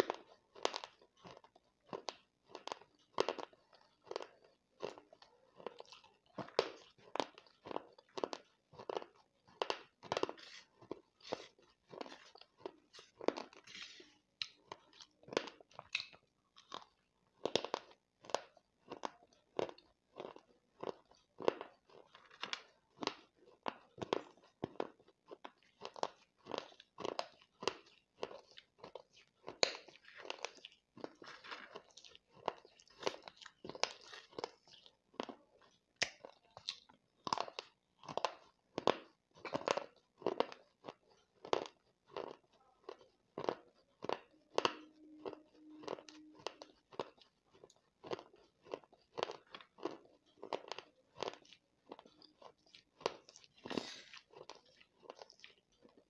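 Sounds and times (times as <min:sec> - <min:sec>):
crunching and chewing clay pieces: 0:00.0 - 0:56.0.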